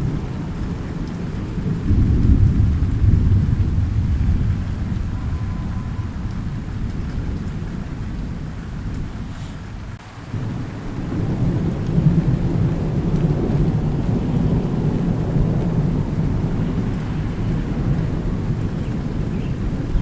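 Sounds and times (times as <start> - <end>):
low rumble of thunder: 0.0 - 20.0
steady rain: 0.0 - 20.0.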